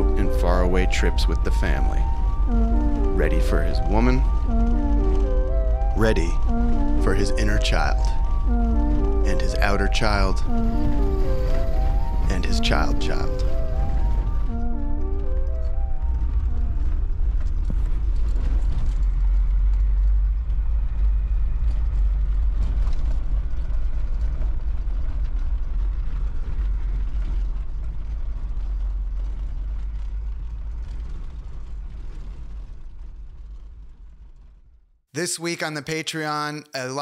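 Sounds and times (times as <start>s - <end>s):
car engine and road noise: 0.0s - 34.8s.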